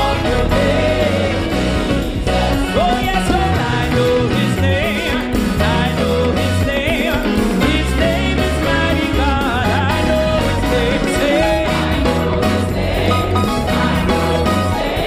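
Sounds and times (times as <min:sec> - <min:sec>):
gospel band playing: 0:00.0 - 0:15.0
people singing: 0:00.0 - 0:15.0.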